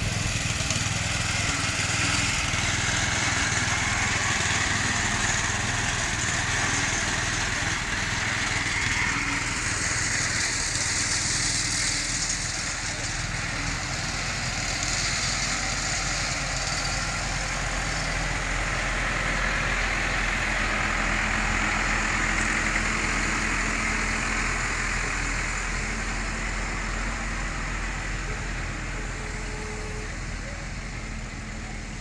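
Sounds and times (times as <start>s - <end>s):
tractor engine passing: 0.0s - 32.0s.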